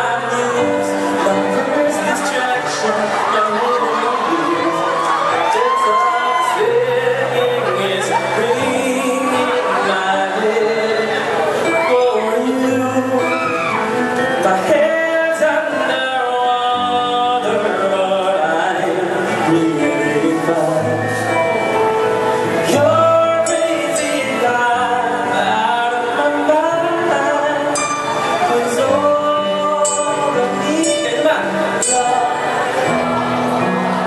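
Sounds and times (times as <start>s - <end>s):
amplified singing voice: 0.0s - 21.4s, 22.5s - 34.0s
live pop band playing: 0.0s - 34.0s.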